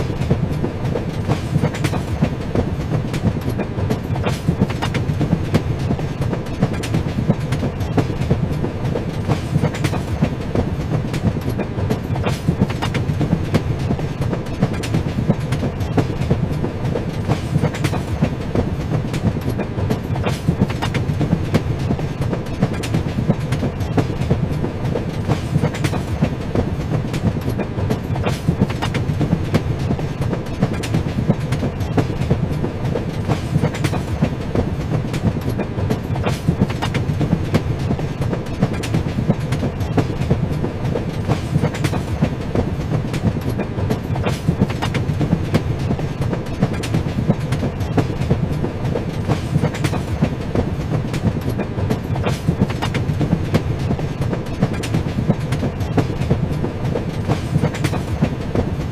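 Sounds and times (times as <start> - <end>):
train rumbling on rails: 0.0 - 58.9
wheels clicking on track: 0.0 - 58.9.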